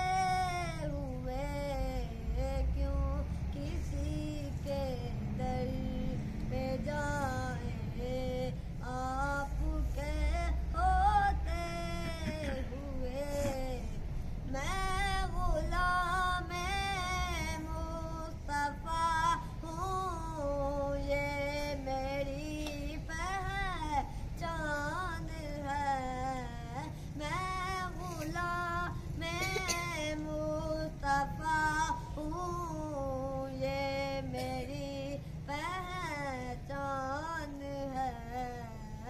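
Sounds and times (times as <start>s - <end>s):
boy singing: 0.0s - 39.0s.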